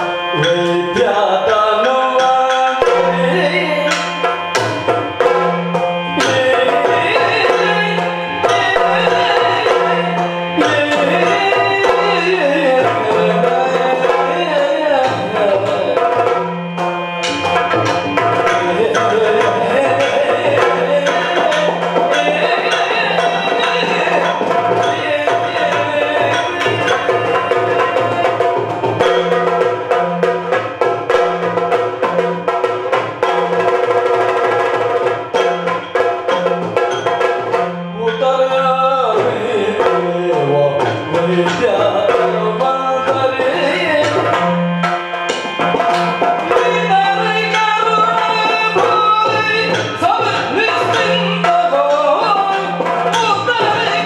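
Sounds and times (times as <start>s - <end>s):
fast hand drum rhythm: 0.0s - 54.0s.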